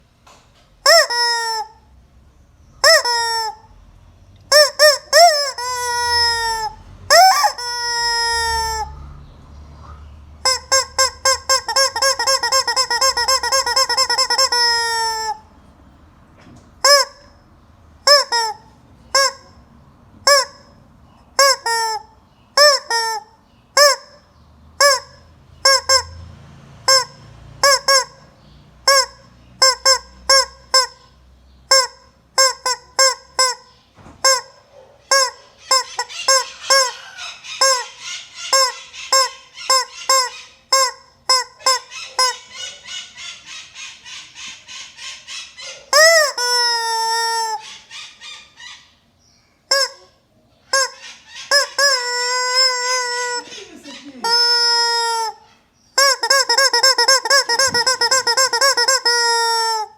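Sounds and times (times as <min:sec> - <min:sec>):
hen calling: 0:04.5 - 0:09.3, 0:09.9 - 0:26.2, 0:26.9 - 0:59.9.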